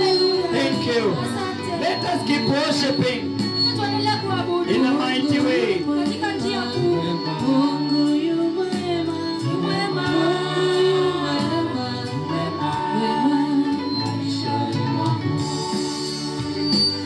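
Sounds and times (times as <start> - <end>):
woman singing into a microphone: 0.0 - 2.6, 3.2 - 17.0
instrumental backing: 0.0 - 17.0.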